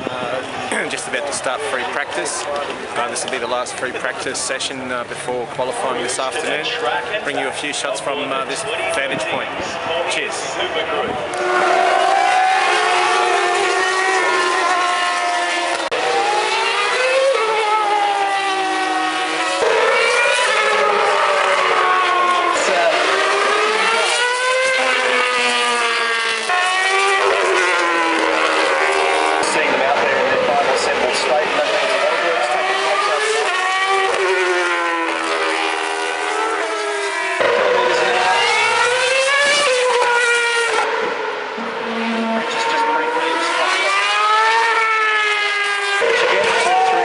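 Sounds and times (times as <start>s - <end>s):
racing car engines passing: 0.0s - 47.0s.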